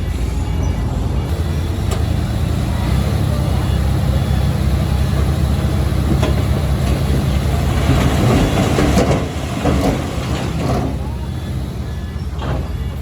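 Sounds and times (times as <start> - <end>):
bulldozer diesel engine running: 0.0 - 13.0
steel tracks clanking: 0.8 - 13.0.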